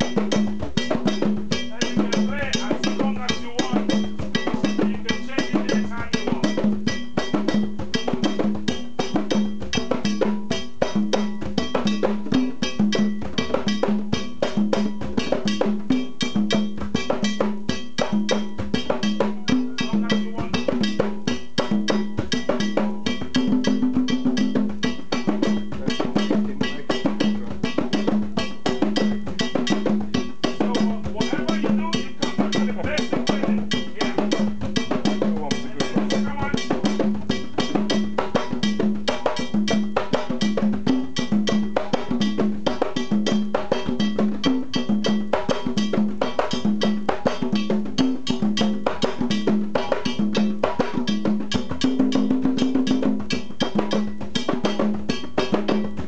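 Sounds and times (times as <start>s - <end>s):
hand drums playing fast rhythm: 0.0s - 56.0s
metal bell ringing: 0.0s - 56.0s.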